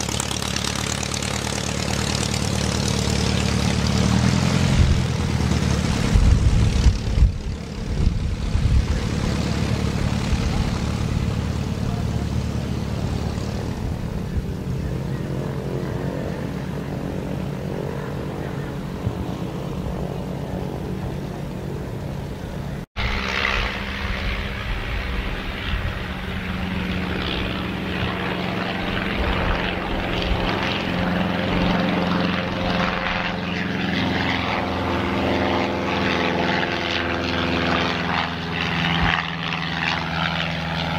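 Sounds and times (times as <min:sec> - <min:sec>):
biplane engine and propeller: 0:00.0 - 0:40.9.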